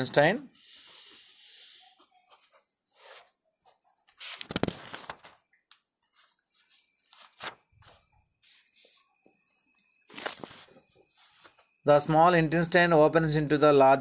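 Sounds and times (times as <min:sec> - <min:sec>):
insect trilling: 0:00.0 - 0:14.0.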